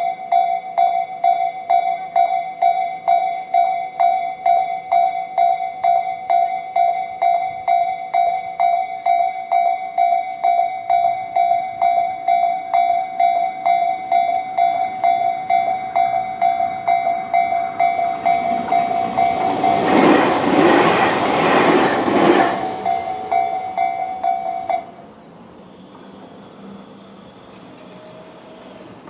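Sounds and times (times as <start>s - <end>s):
electric train passing: 0.0s - 29.0s
level crossing warning bells: 0.0s - 29.0s.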